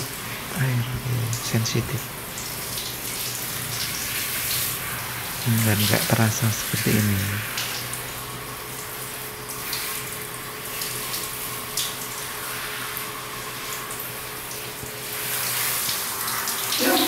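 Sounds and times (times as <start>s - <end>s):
shower spray hissing on fur: 0.0s - 17.0s.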